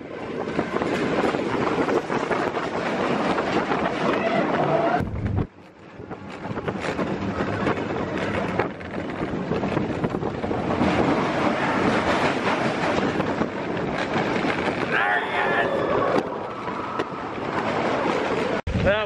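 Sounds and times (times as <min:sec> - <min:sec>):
roller coaster wheels rumbling on rails: 0:00.0 - 0:19.0
wind rushing over microphone: 0:00.0 - 0:19.0.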